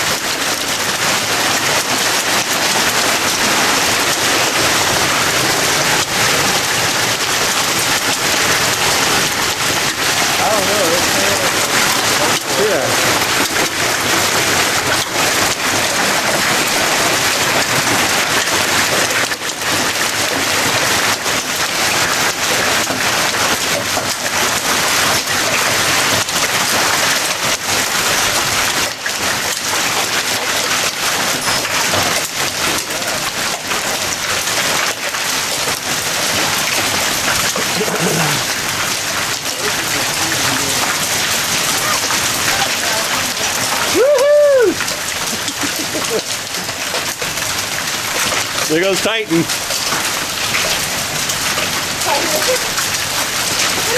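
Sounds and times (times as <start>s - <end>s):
hail pattering on ground: 0.0s - 53.9s.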